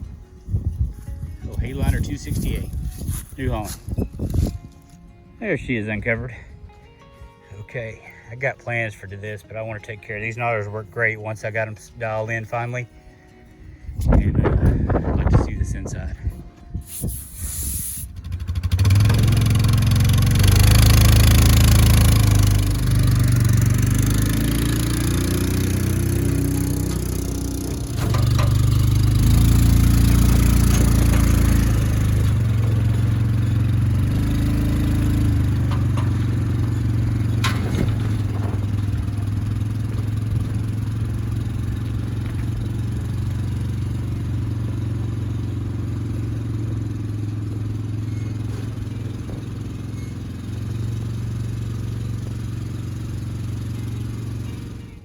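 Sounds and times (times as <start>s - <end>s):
tractor engine running under load: 0.0s - 6.9s, 7.6s - 55.0s.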